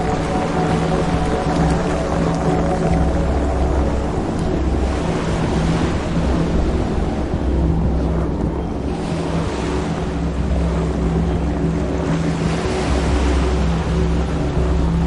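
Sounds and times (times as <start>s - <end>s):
low droning hum: 0.0s - 15.0s
rushing water: 0.0s - 15.0s
wind: 0.0s - 15.0s.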